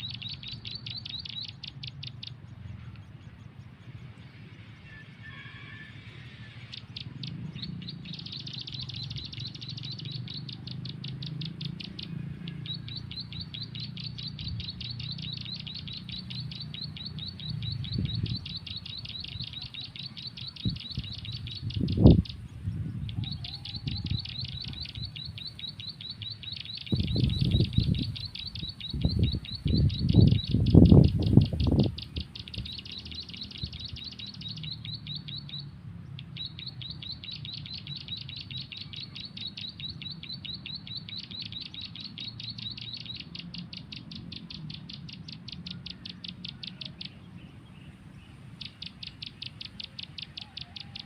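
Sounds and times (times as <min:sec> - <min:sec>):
high bird chirps trilling: 0:00.0 - 0:51.0.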